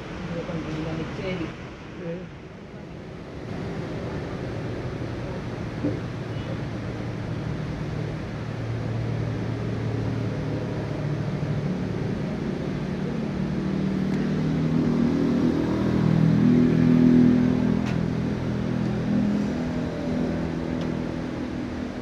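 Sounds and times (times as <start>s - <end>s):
engine running: 3.1s - 22.0s.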